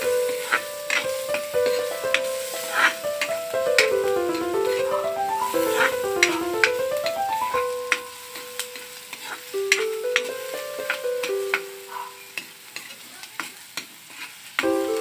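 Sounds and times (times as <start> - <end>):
soft background music: 0.0 - 12.4, 14.7 - 15.0
garlic sizzling in butter: 0.0 - 15.0
metal spatula scraping pan: 0.1 - 7.8, 8.4 - 14.5.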